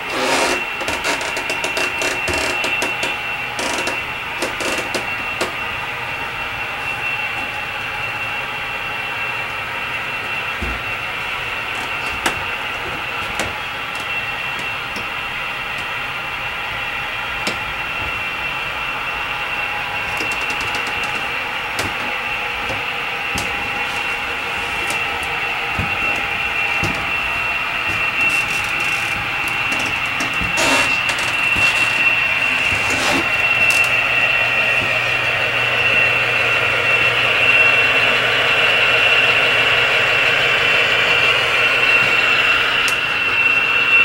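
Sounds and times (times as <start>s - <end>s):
model trains running: 0.0s - 44.0s.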